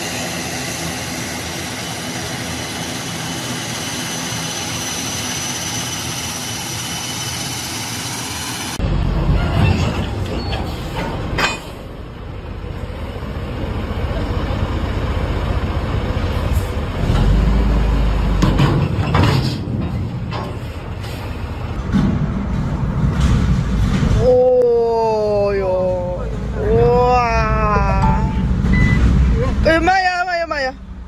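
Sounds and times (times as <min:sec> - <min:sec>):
diesel engine running low: 0:00.0 - 0:31.0.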